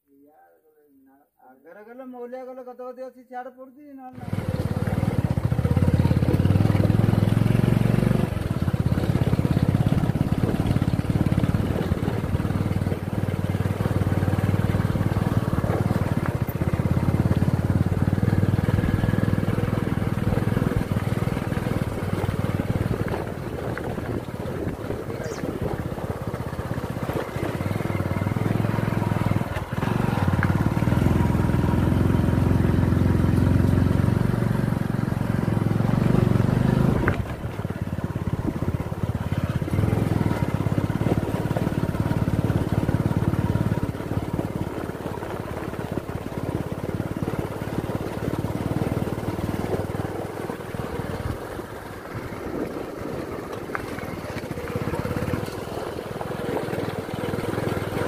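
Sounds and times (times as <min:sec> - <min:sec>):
vehicle engine running: 0:04.2 - 0:58.0.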